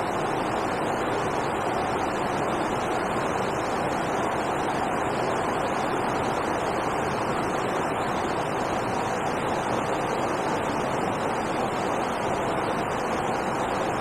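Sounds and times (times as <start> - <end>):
river water pouring over a weir: 0.0 - 14.0.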